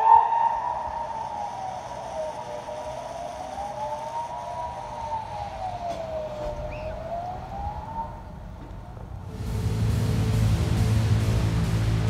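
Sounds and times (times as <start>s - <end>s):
rising and falling siren: 0.0s - 10.8s.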